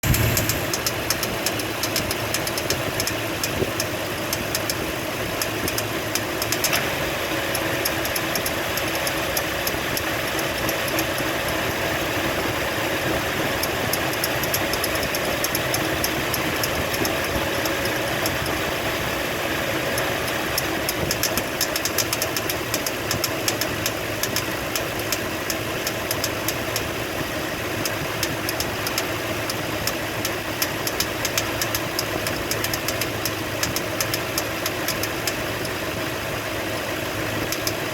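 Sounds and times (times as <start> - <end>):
rapid steady clicking: 0.0 - 6.9, 7.5 - 11.8, 13.5 - 19.2, 19.8 - 35.8, 37.4 - 37.9
car engine idling: 0.0 - 37.9.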